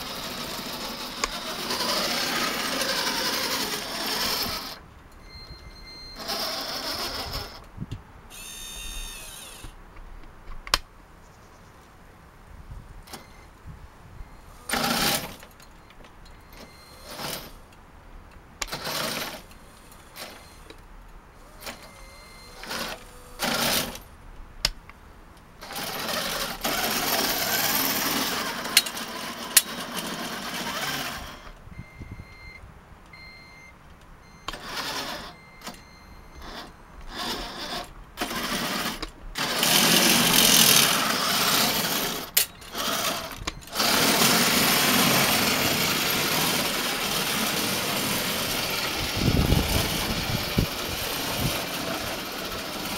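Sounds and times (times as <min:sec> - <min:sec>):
small electric motors and gearboxes: 0:00.0 - 0:07.7, 0:08.3 - 0:09.8, 0:14.2 - 0:17.6, 0:18.6 - 0:20.8, 0:21.4 - 0:24.8, 0:25.6 - 0:32.0, 0:34.4 - 0:52.9.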